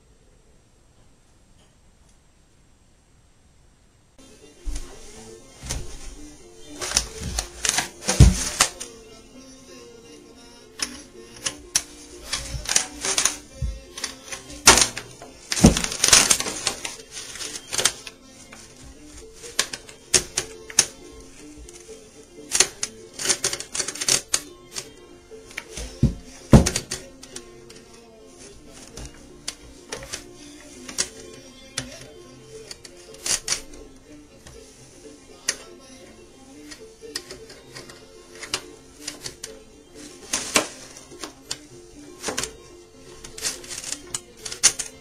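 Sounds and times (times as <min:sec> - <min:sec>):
faint music: 0:00.0 - 0:45.0.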